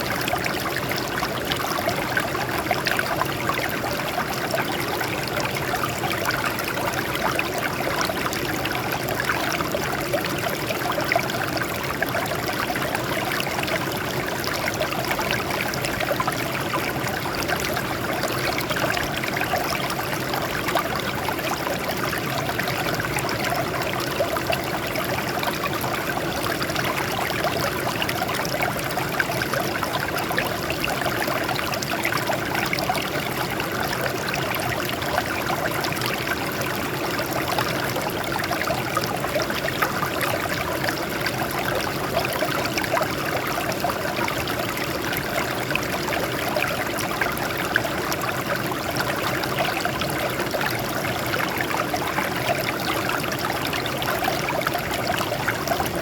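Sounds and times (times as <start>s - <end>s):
stream trickling over rocks: 0.0s - 56.0s.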